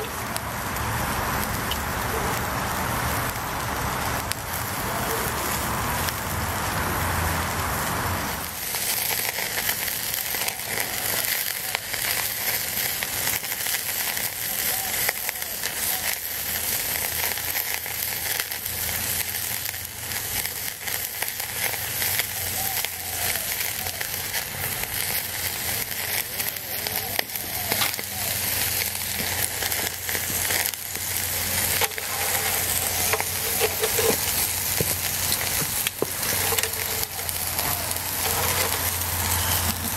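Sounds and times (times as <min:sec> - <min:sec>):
meat sizzling over charcoal: 0:00.0 - 0:39.9.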